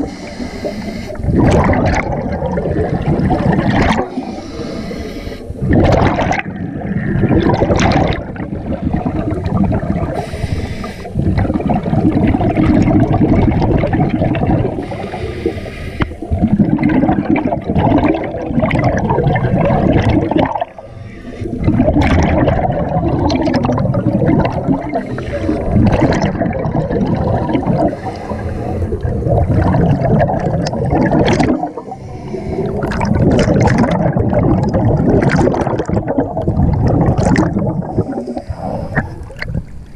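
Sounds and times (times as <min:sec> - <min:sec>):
underwater air bubbles rushing: 0:00.0 - 0:39.9.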